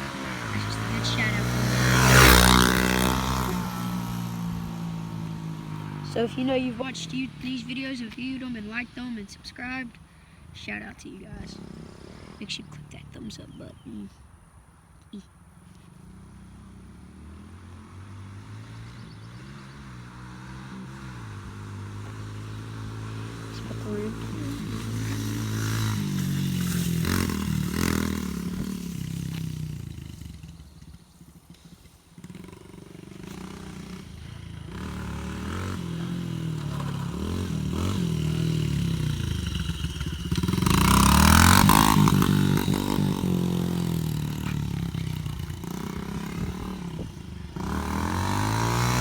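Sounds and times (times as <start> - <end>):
dirt bike engine revving: 0.0 - 13.9, 16.0 - 49.0.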